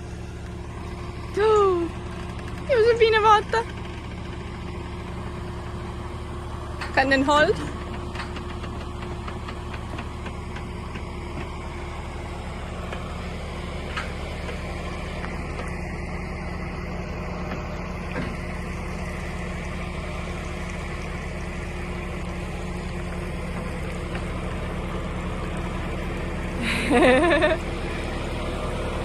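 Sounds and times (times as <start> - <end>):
lifting machine engine running: 0.0 - 29.0.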